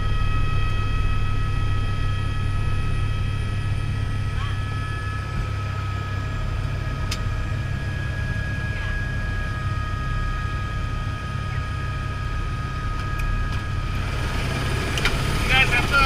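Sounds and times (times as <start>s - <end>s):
helicopter rotor drone: 0.0s - 16.0s
turbine whine: 0.0s - 16.0s.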